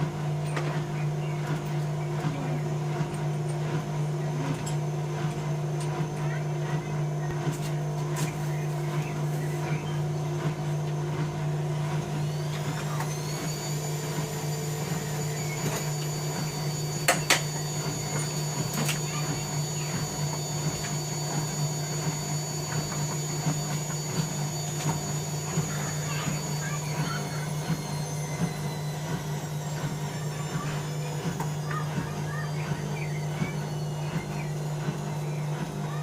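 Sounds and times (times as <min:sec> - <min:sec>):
high motor whine: 0:00.0 - 0:36.0
washing machine motor hum: 0:00.0 - 0:36.0.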